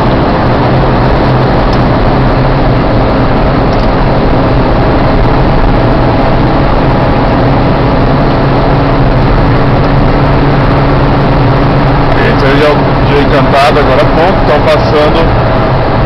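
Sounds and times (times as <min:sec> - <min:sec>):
car engine hum: 0:00.0 - 0:16.0
tyre and road noise: 0:00.0 - 0:16.0.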